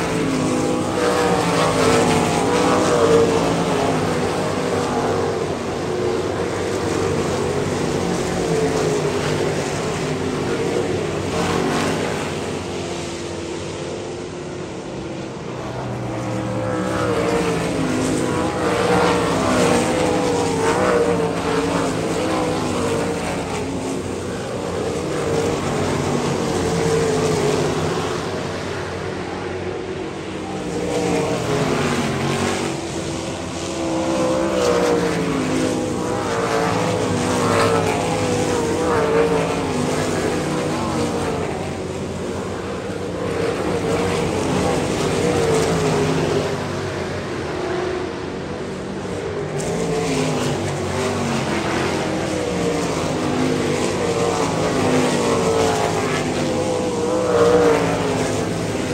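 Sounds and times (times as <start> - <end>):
racing car engines revving: 0.0 - 58.9.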